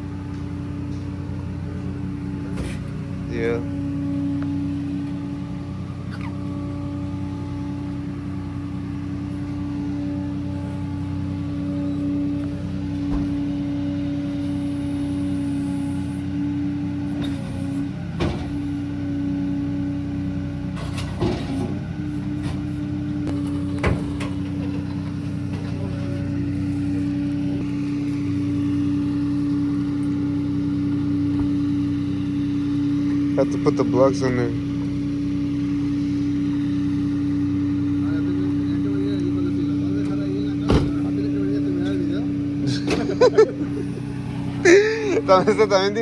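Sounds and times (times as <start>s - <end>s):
pickup truck engine humming: 0.0s - 46.0s.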